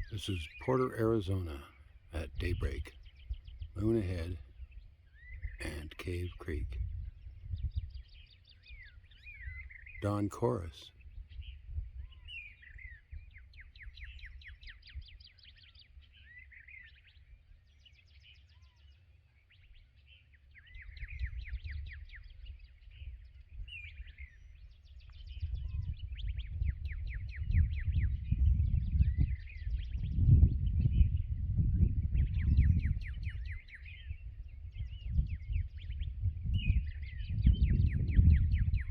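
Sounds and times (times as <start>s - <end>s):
songbirds trilling and whistling: 0.0s - 38.9s.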